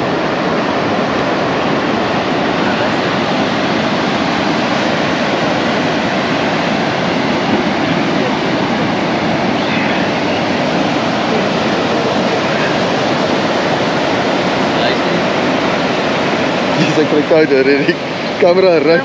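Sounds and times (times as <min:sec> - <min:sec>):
breaking surf rushing: 0:00.0 - 0:19.0.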